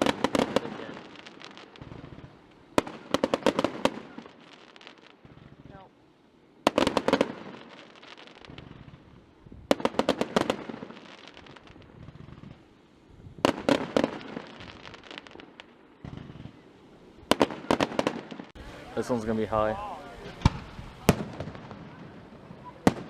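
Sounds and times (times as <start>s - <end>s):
fireworks cracking: 0.0s - 23.0s.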